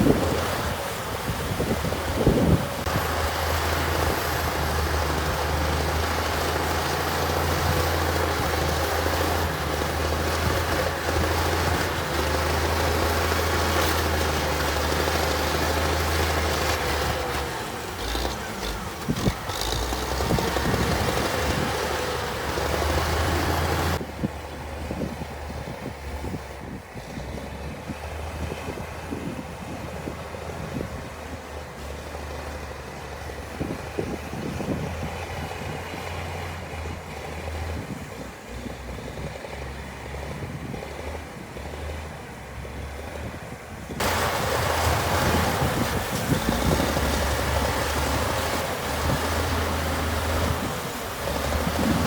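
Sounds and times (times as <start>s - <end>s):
diesel machine engine humming: 0.0s - 52.0s.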